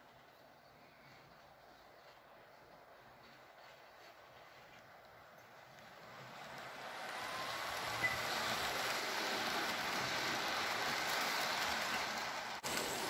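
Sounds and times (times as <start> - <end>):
model train wheels rolling on rails: 1.6 - 13.0.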